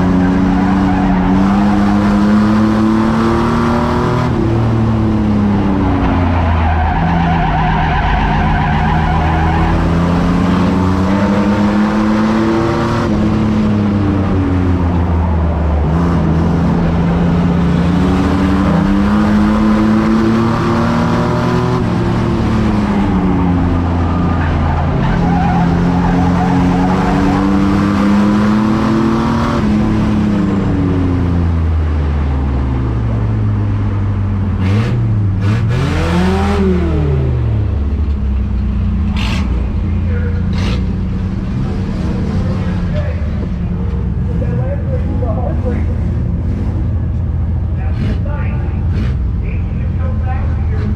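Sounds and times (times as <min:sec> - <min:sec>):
racing truck engines revving: 0:00.0 - 0:50.9.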